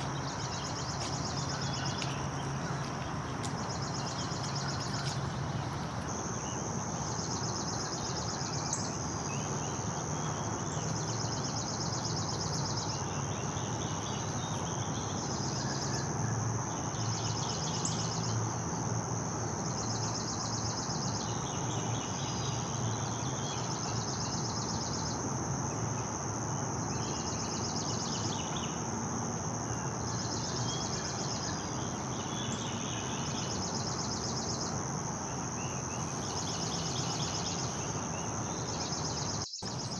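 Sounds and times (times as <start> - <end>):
pulsing insect chorus: 0.0 - 39.9.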